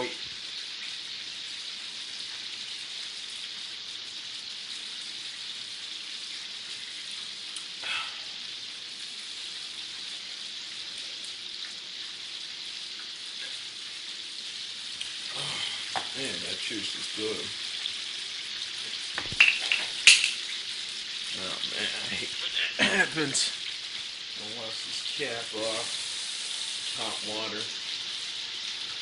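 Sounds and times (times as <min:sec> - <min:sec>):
chicken frying in hot oil: 0:00.0 - 0:29.0.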